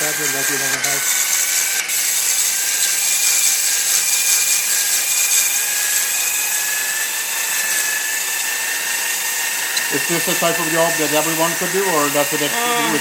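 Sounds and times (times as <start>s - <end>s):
electric drill motor whine: 0.0s - 13.0s.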